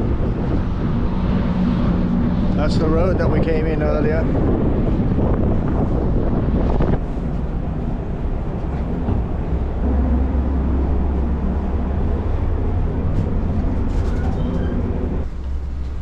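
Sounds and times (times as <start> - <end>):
ship machinery rumble: 0.0 - 16.0
wind rumble: 0.0 - 16.0.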